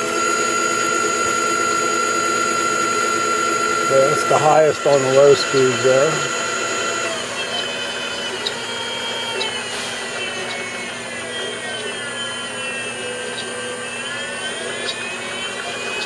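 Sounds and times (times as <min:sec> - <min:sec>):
drill press motor whine: 0:00.0 - 0:16.0.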